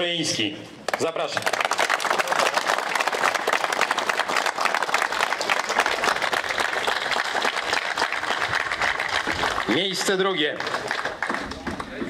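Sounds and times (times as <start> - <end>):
crowd applauding: 0.9 - 12.0.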